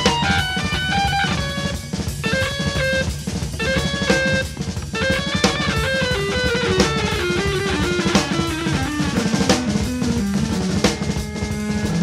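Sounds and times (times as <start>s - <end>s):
bass drum beats: 0.0s - 12.0s
rock music: 0.0s - 12.0s.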